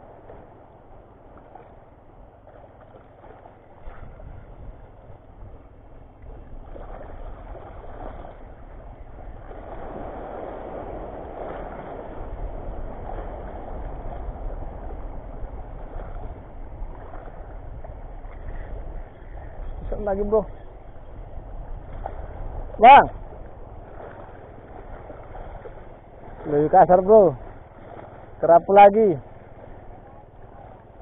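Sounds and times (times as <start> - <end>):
low wind rumble: 0.0 - 31.0
small waves washing: 0.0 - 31.0
wind noise on microphone: 3.2 - 28.5.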